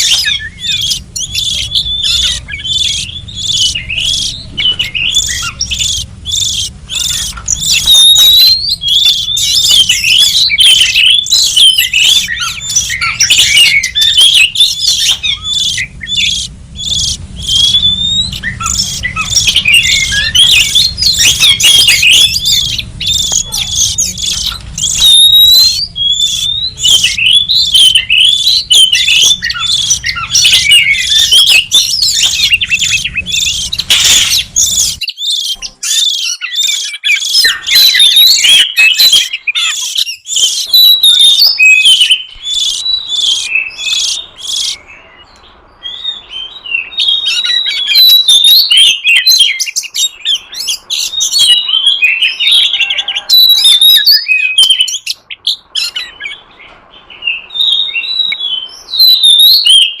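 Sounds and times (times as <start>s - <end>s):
bird chirps and whistles: 0.0s - 56.4s, 57.1s - 60.0s.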